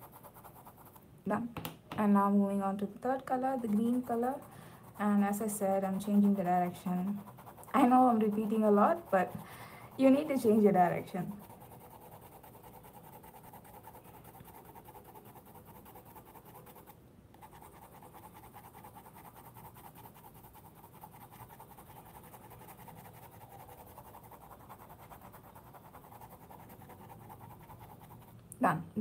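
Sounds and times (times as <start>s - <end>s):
colored pencil scratching on paper: 0.0s - 1.0s, 3.1s - 28.4s.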